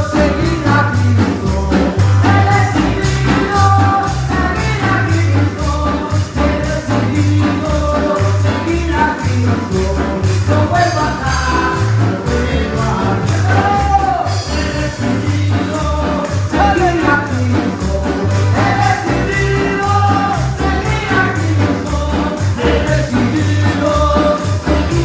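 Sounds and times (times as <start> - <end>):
band with bass and percussion: 0.0 - 25.0
voices singing a chorus: 0.0 - 25.0.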